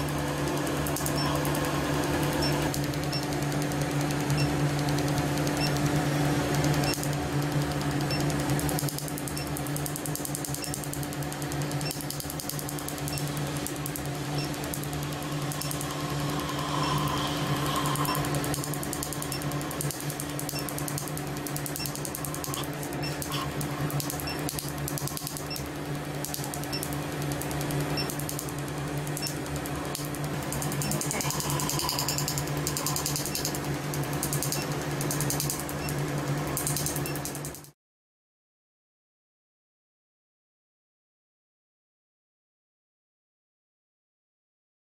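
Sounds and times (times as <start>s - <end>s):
steady hum: 0.0s - 37.6s.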